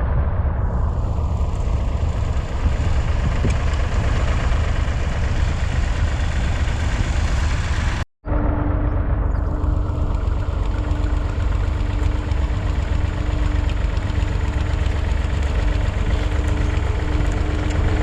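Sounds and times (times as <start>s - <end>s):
steady hum: 0.0s - 18.0s
diesel engine running: 0.9s - 18.0s.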